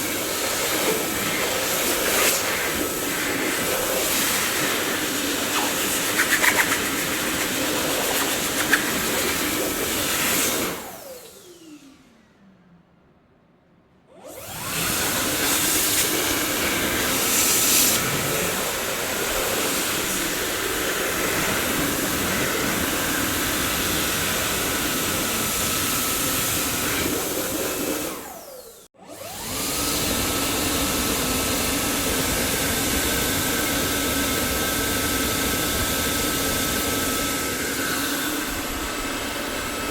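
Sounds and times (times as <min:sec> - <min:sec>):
vacuum cleaner motor whine: 0:00.0 - 0:12.4, 0:14.1 - 0:39.9.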